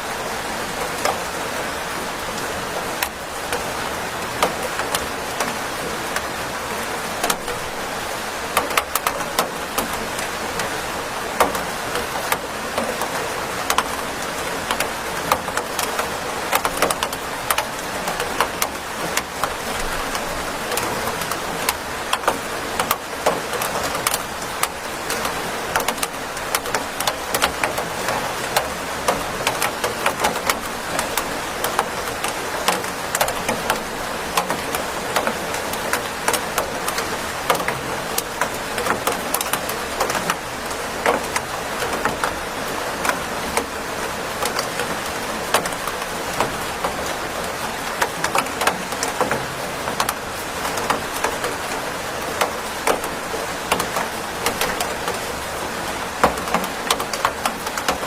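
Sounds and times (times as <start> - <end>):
raindrops tapping a surface: 0.0 - 58.0
steady rain hiss: 0.0 - 58.0.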